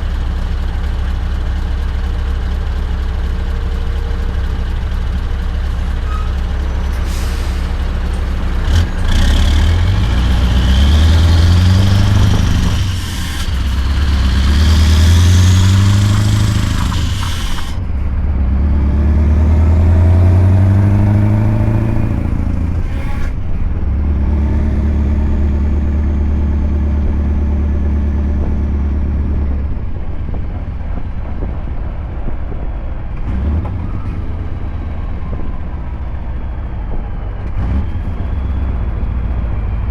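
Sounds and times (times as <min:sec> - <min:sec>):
truck engine accelerating: 0:00.0 - 0:39.9.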